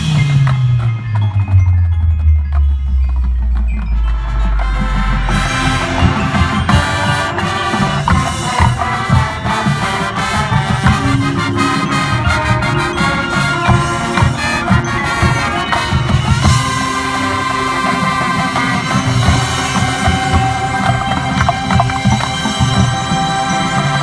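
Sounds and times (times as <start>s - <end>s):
drumline drum hits: 0.0s - 24.0s
brass and woodwinds playing: 4.0s - 24.0s.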